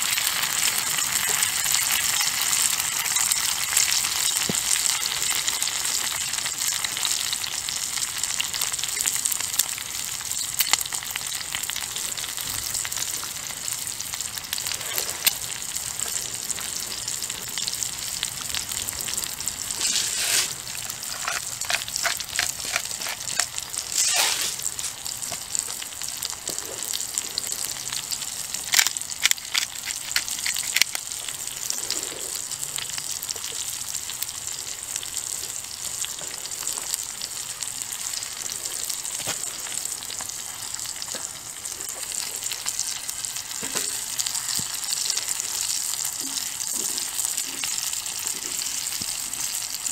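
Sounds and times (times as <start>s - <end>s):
food sizzling in skillet: 0.0s - 49.9s.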